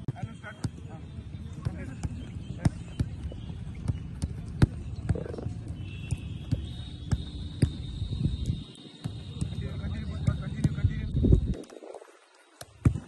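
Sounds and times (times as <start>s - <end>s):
footballs kicked thuds: 1.5s - 11.8s, 12.6s - 13.0s.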